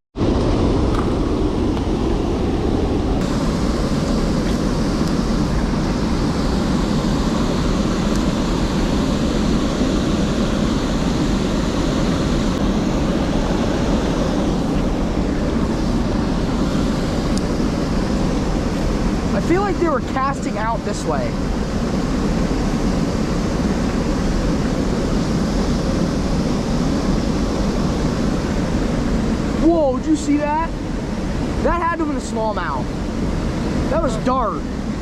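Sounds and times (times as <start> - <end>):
wind rumbling on microphone: 0.2 - 35.0.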